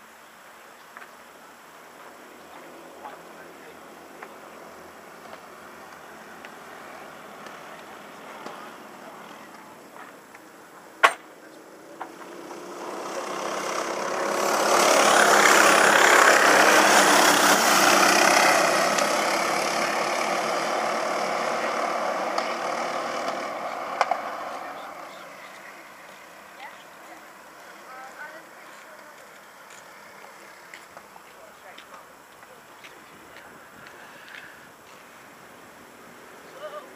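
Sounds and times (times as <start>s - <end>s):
go-kart engines passing: 1.9s - 36.9s.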